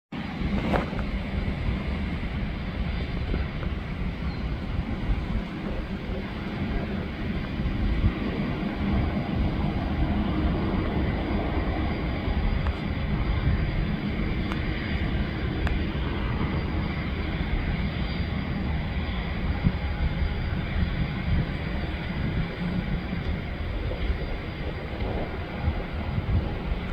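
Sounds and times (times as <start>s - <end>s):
jet engine rumble and hiss: 0.2s - 26.9s.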